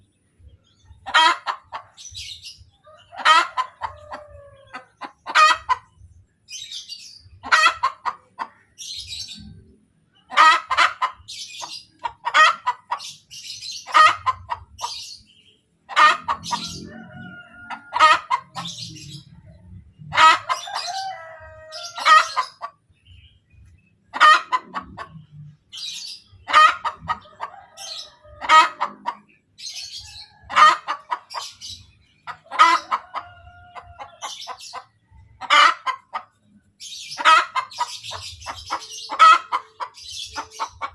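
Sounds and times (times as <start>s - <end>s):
hen cackling: 0.7s - 6.0s, 6.7s - 9.6s, 10.2s - 15.3s, 15.9s - 22.8s, 24.1s - 40.9s.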